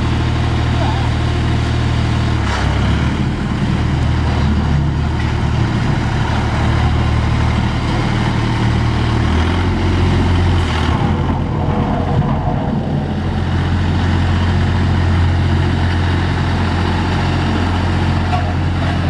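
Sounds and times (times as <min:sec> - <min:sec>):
road roller engine running: 0:00.0 - 0:19.0.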